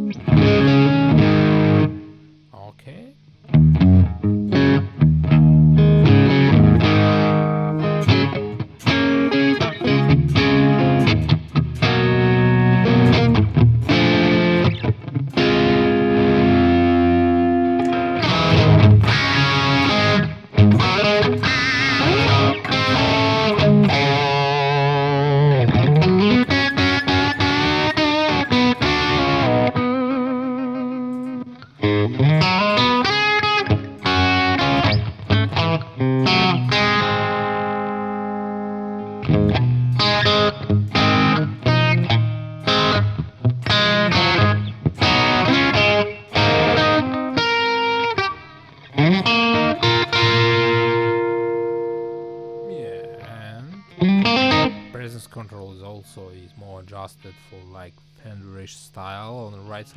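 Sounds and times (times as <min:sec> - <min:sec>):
overdriven electric guitar: 0:00.0 - 0:02.4, 0:03.3 - 0:55.1.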